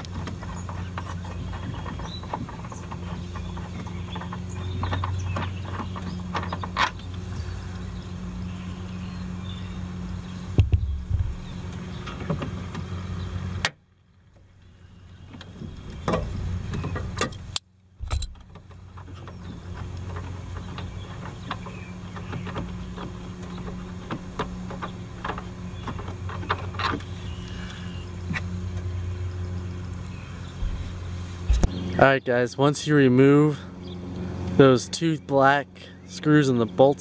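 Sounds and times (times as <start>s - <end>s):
low hum: 0.0s - 32.3s.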